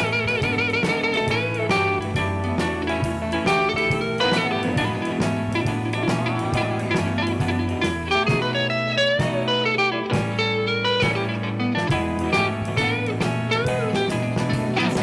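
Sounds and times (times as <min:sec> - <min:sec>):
instrumental band with guitar: 0:00.0 - 0:15.0.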